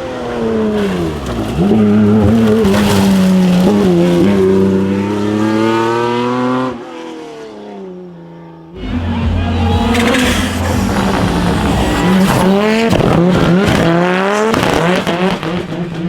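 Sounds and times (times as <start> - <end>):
rally car engine revving: 0.0 - 7.5, 8.8 - 16.0.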